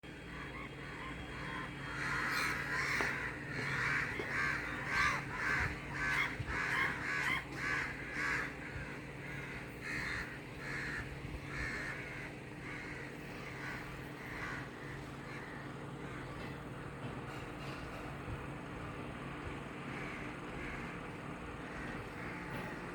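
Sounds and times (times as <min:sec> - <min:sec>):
steady low hum: 0:00.0 - 0:22.9
crows cawing: 0:00.1 - 0:18.1, 0:19.1 - 0:22.9.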